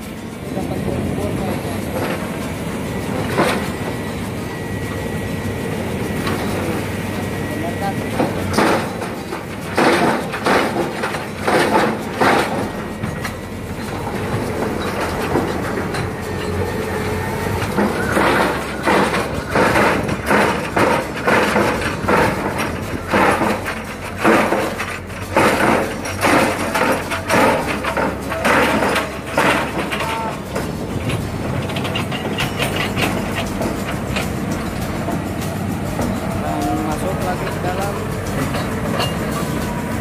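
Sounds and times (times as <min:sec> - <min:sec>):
drilling rig running: 0:00.0 - 0:40.0
rhythmic metallic clanking: 0:00.0 - 0:40.0.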